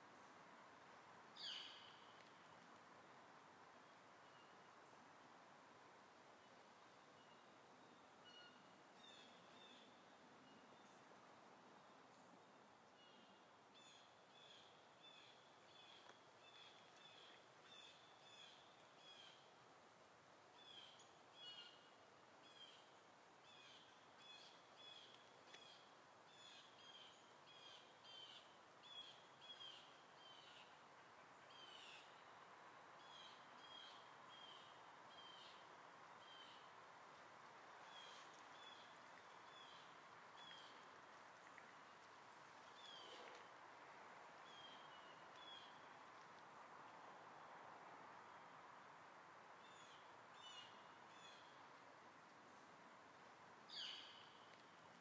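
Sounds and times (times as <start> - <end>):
background hiss: 0.0 - 55.0.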